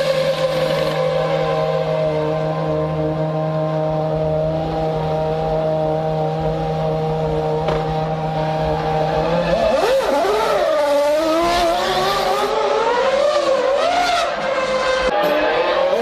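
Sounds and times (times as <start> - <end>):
racing car engine revving: 0.0 - 16.0.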